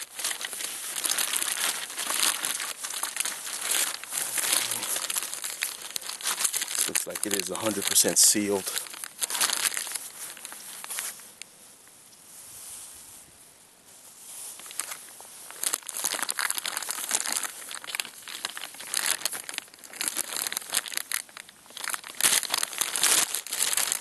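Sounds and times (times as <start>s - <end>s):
plastic bag crinkling: 0.0s - 11.2s, 14.6s - 24.0s.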